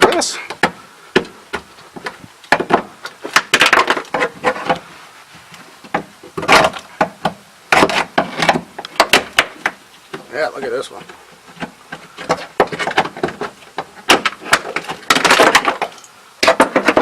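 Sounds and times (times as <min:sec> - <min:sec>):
brittle mat cracking and knocking: 0:00.0 - 0:17.0.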